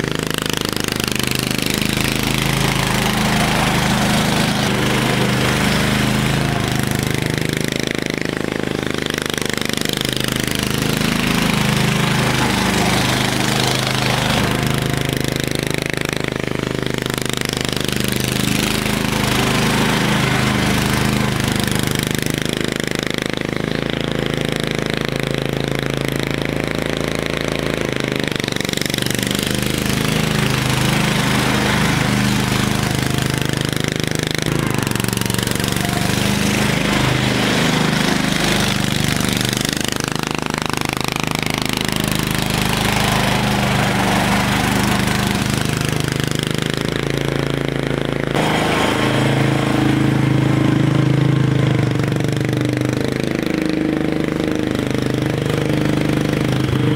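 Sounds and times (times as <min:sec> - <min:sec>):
lawn tractor engine running: 0:00.0 - 0:56.9.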